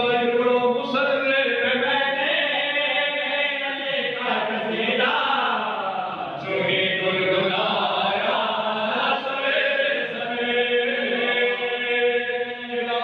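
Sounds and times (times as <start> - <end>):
man chanting into microphone: 0.0 - 13.0.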